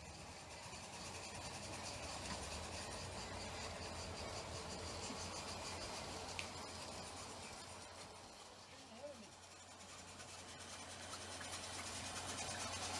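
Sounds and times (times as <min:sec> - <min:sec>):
model steam locomotive hissing: 0:00.0 - 0:12.9.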